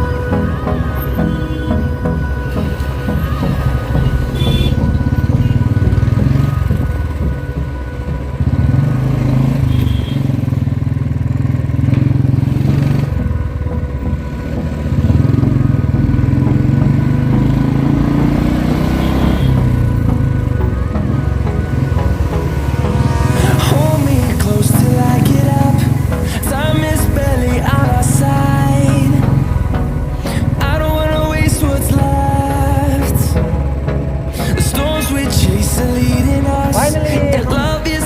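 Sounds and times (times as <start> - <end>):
motorcycle engine running: 1.0 - 38.0.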